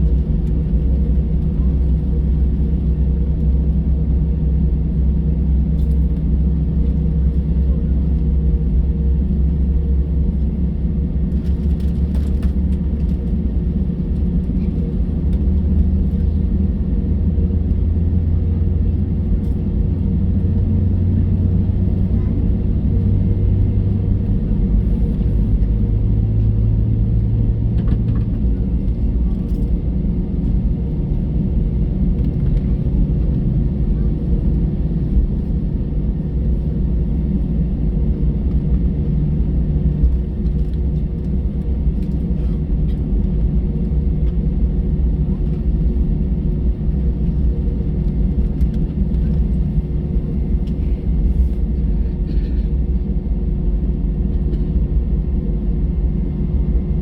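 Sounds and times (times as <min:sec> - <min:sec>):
constant hum: 0:00.0 - 0:57.0
jet engines idling: 0:00.0 - 0:57.0.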